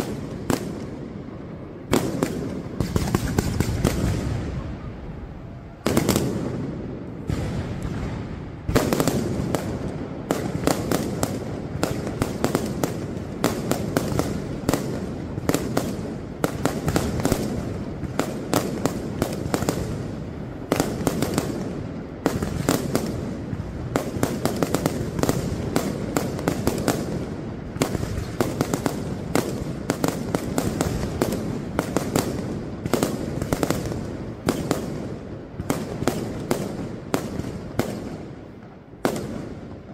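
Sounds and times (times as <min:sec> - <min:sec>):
fireworks bangs and cracks: 0:00.0 - 0:39.9.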